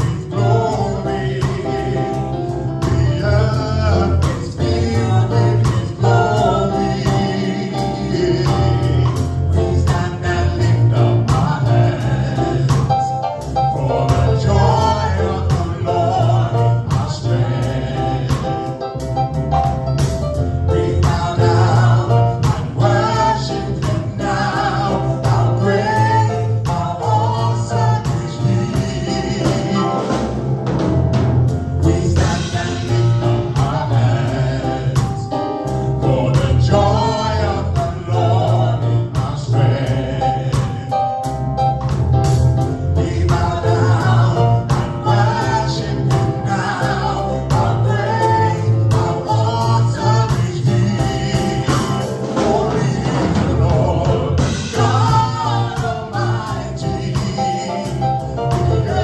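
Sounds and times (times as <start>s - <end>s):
choir singing: 0.0s - 19.4s, 20.6s - 41.5s, 42.6s - 59.0s
bass: 0.0s - 59.0s
drums: 0.0s - 59.0s.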